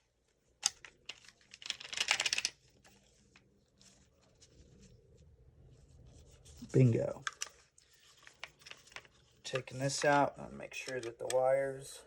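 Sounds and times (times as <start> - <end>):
faint fiddling with small parts: 0.0 - 12.0.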